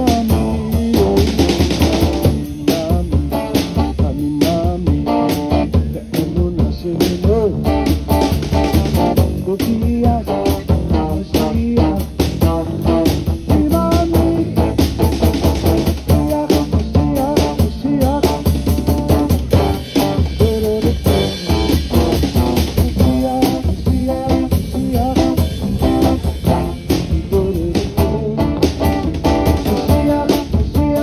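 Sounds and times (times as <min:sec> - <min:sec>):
bass guitar: 0:00.0 - 0:31.0
drum kit steady beat: 0:00.0 - 0:31.0
guitars: 0:00.0 - 0:31.0.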